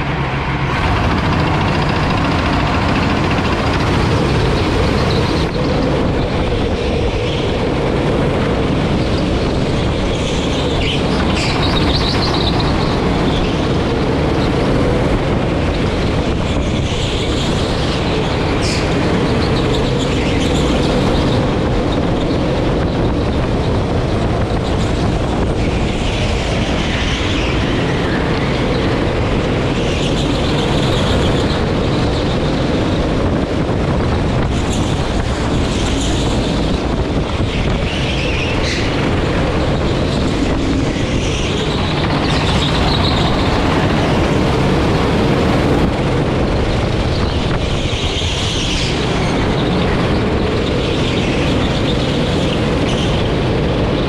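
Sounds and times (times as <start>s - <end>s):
go-kart engine running: 0.0s - 54.0s
other karts: 0.0s - 54.0s.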